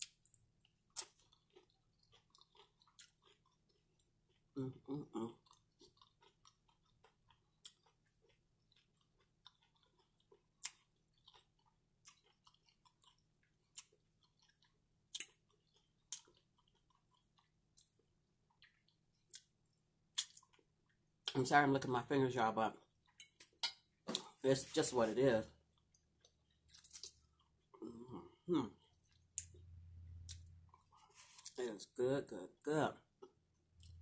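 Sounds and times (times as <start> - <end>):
person chewing and mouth sounds: 0.0 - 21.4, 22.8 - 31.7.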